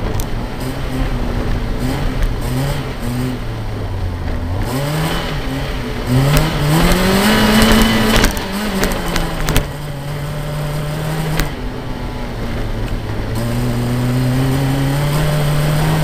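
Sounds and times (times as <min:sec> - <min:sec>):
car engine revving hard: 0:00.0 - 0:16.0
gravel noise from tyres: 0:00.0 - 0:16.0.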